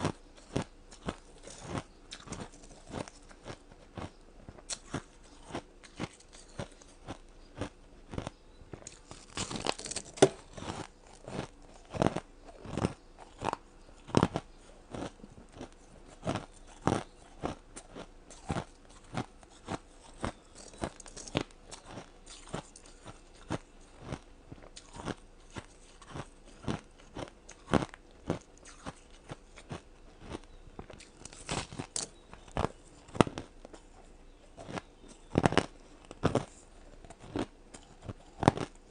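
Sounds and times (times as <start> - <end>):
person crunching ice: 0.0 - 30.4, 31.0 - 33.5, 34.6 - 38.8.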